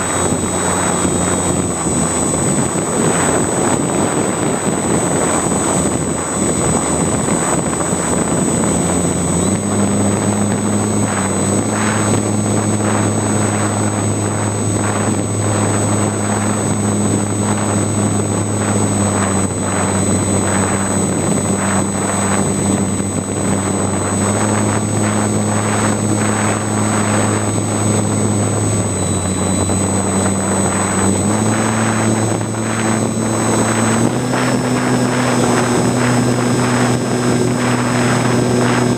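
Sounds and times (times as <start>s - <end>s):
model plane motor and propeller: 0.0s - 38.9s
wind buffeting microphone: 0.0s - 38.9s.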